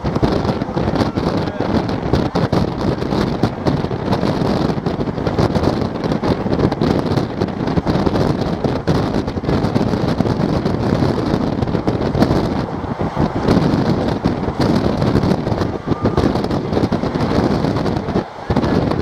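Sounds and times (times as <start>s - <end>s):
train wheels on rails: 0.0s - 19.0s
wind buffeting microphone: 0.0s - 19.0s.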